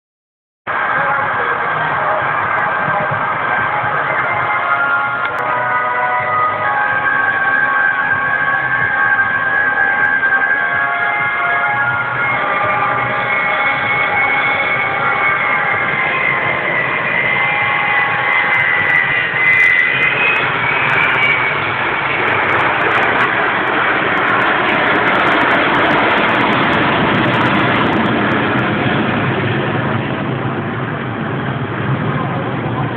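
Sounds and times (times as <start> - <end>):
jet engines roaring overhead: 0.7 - 32.9.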